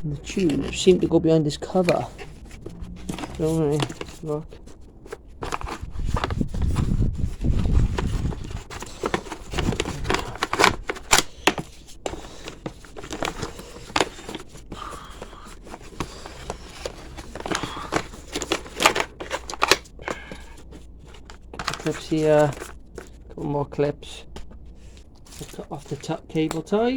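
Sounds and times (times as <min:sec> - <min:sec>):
low rumbling handling noise: 0:00.0 - 0:11.0, 0:14.2 - 0:26.9
plastic rustling: 0:00.0 - 0:26.9.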